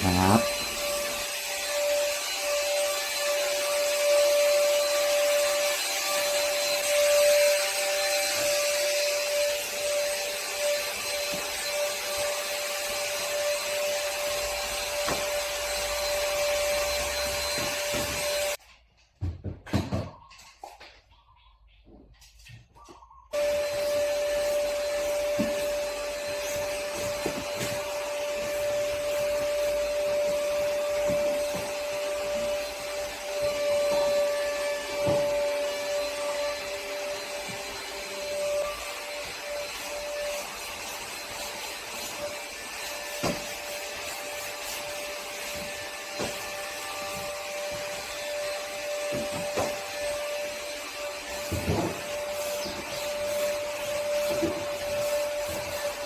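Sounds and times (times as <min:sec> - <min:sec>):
cleaning machine motor whining: 0:00.0 - 0:18.6, 0:23.4 - 0:56.0.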